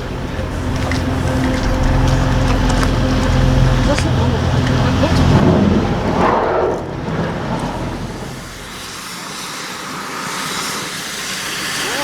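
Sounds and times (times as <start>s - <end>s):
train rumbling past: 0.0s - 10.4s
even rushing noise: 0.0s - 10.8s.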